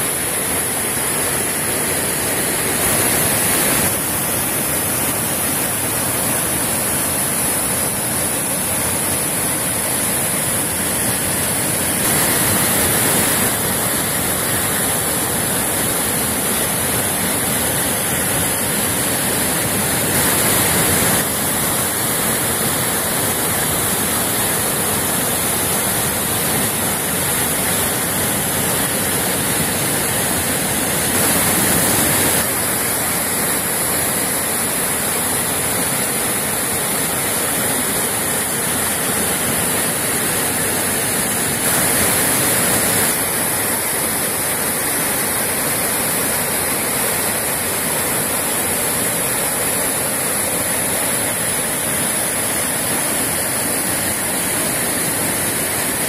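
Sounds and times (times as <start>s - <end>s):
waterfall rushing over boulders: 0.0s - 56.0s.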